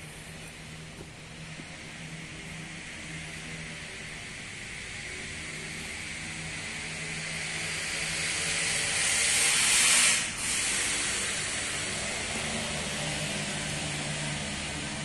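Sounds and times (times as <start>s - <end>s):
water spraying hiss: 1.5s - 15.0s.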